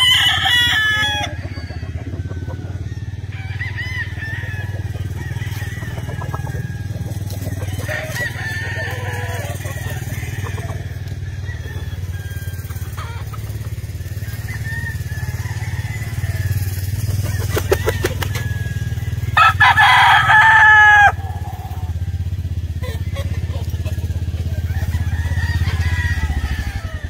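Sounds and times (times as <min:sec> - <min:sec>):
rooster crowing: 0:00.0 - 0:27.0.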